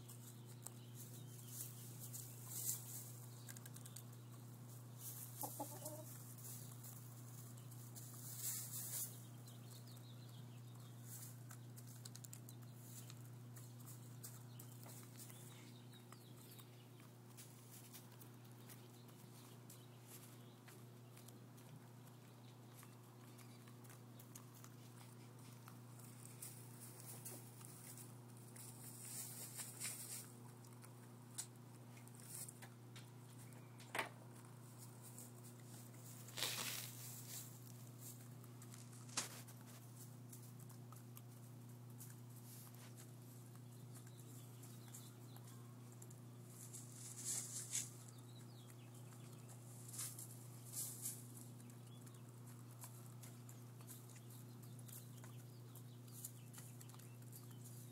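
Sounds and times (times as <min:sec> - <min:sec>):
hens pecking and rustling straw: 0:00.0 - 0:57.9
steady low hum: 0:00.0 - 0:57.9.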